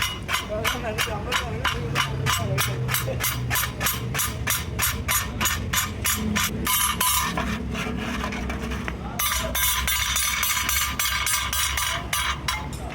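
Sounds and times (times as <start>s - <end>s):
hammer striking: 0.0s - 7.5s, 9.2s - 12.9s.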